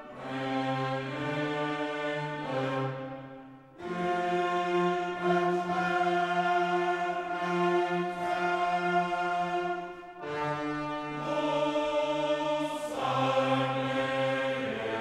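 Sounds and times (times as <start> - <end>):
choral and orchestral chords: 0.0 - 15.0.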